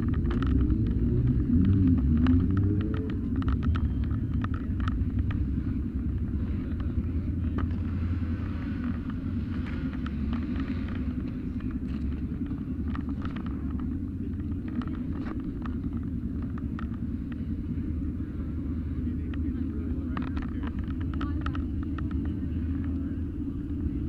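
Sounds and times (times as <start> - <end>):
light clicks and rattles: 0.0 - 24.0
motorcycle engine idling low: 0.0 - 24.0.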